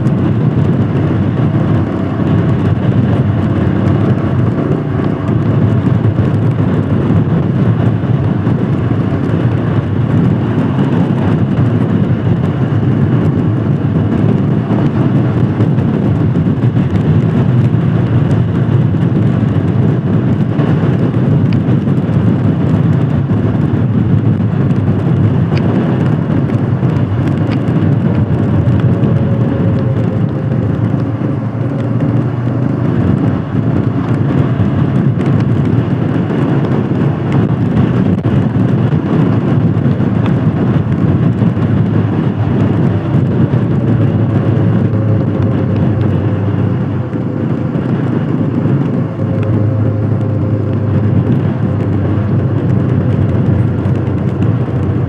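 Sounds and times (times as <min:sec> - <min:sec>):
motorcycle engine running: 0:00.0 - 0:55.0
rushing riding noise: 0:00.0 - 0:55.0.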